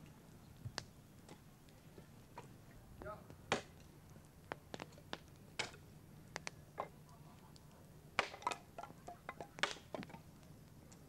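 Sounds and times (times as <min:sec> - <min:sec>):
firewood being split: 0:00.0 - 0:11.0.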